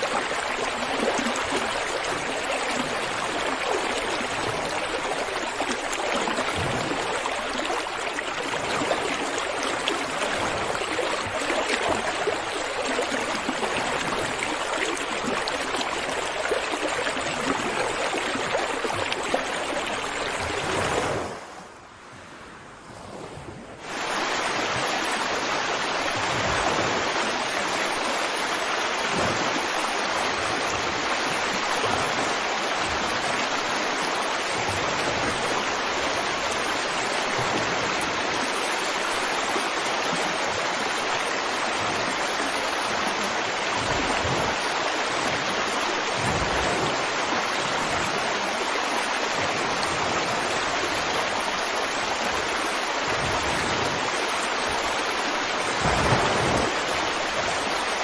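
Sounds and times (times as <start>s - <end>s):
running water: 0.0s - 21.4s, 23.8s - 58.0s.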